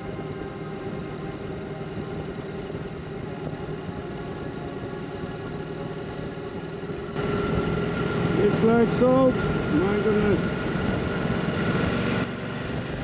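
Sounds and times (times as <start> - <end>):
motorcycle engine at low revs: 0.0 - 13.0
road and wind noise: 0.0 - 13.0.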